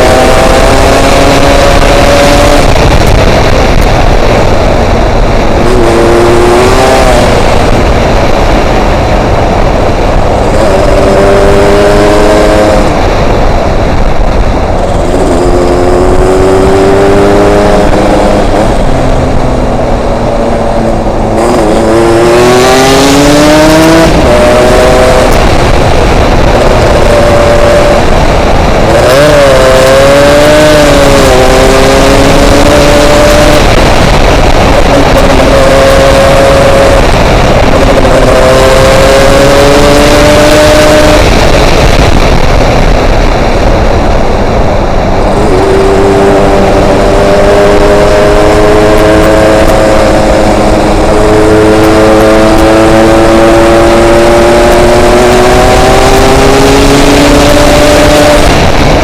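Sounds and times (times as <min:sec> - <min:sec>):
two-stroke motorcycle engine revving: 0:00.0 - 0:59.0
wind noise on microphone: 0:00.0 - 0:59.0.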